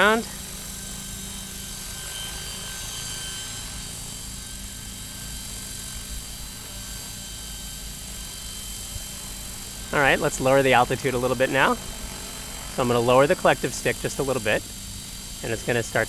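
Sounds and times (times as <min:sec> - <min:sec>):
high motor whine: 0:00.0 - 0:16.0
rc helicopter rotor hum: 0:00.0 - 0:16.0.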